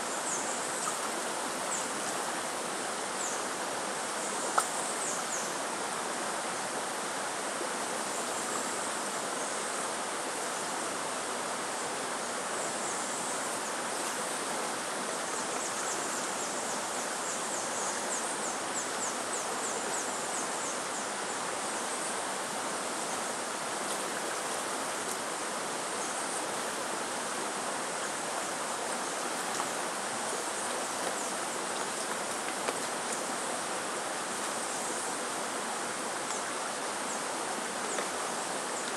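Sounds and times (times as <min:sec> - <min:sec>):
rush like running water: 0:00.0 - 0:38.9.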